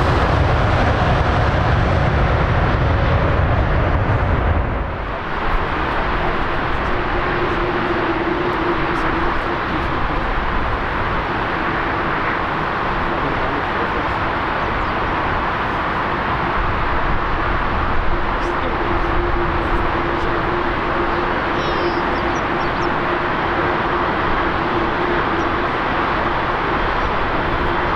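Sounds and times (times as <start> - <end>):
jet engines rushing: 0.0 - 27.9.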